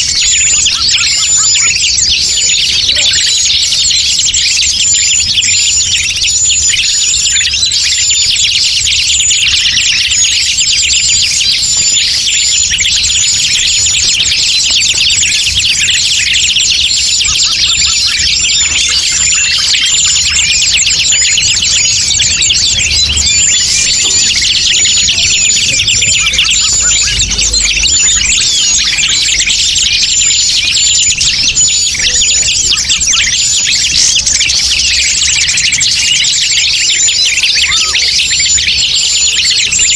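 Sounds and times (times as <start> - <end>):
chorus of bird chirps: 0.0 - 39.9.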